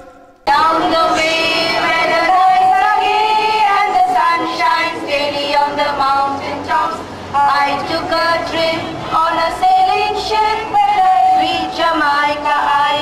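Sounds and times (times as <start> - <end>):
women singing in chorus: 0.0 - 13.0.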